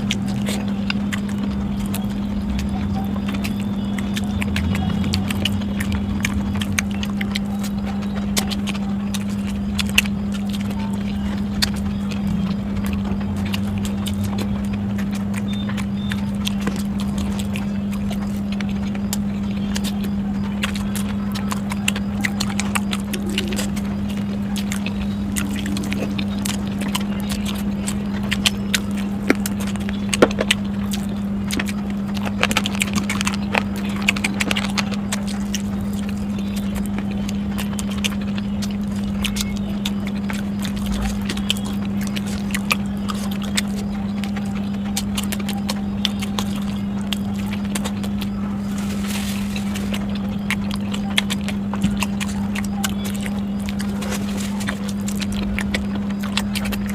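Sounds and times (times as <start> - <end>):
low hum: 0.0 - 56.9
mouth clicks: 0.0 - 56.9
person chewing food: 0.0 - 56.9.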